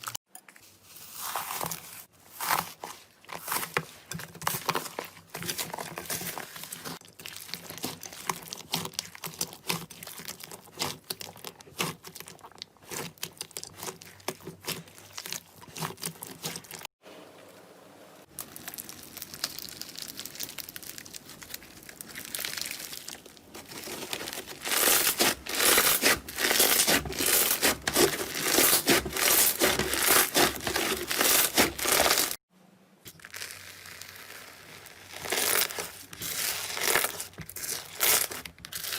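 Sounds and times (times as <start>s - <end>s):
slime crackling and squishing: 0.8s - 17.0s, 18.3s - 32.4s, 33.1s - 38.9s.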